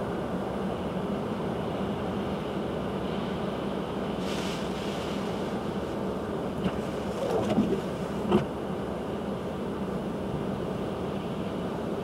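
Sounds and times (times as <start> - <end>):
waves against concrete wall: 1.4 - 12.0.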